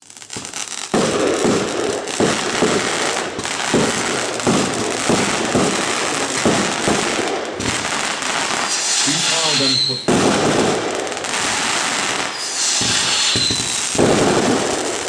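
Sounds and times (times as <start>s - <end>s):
crackling hiss of firework bursts: 0.0s - 15.0s
firework launch thumps: 0.3s - 15.0s.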